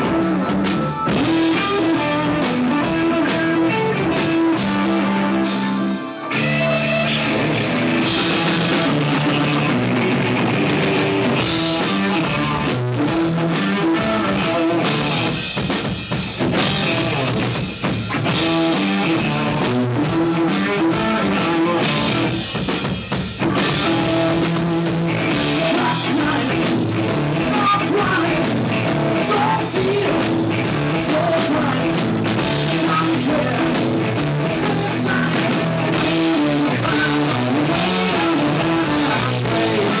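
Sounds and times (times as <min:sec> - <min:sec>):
rock band drum kit: 0:00.0 - 0:40.0
rock band guitar: 0:00.0 - 0:40.0.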